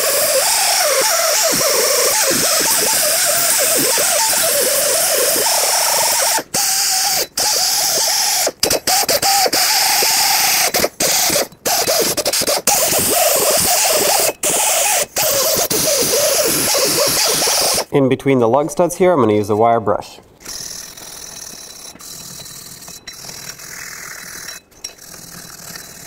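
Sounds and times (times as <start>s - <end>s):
die grinder grinding steel: 0.0s - 17.9s, 20.4s - 26.0s.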